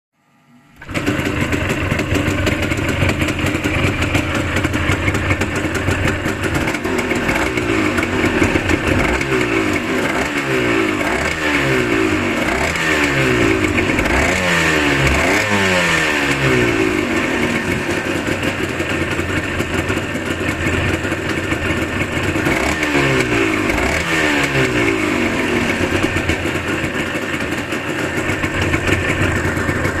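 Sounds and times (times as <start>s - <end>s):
motorcycle engine revving: 0.8s - 30.0s.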